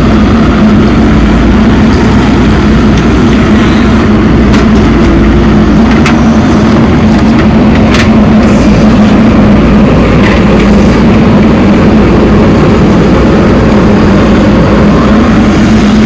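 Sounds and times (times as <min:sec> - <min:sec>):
loud motor humming: 0:00.0 - 0:16.0.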